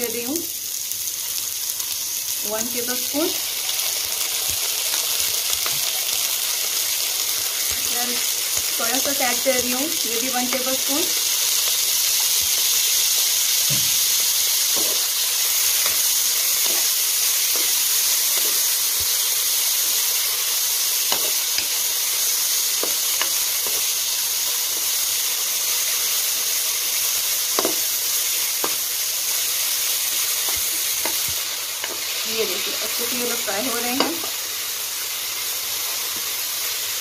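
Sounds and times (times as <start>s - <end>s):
vegetables sizzling in hot oil: 0.0s - 37.0s.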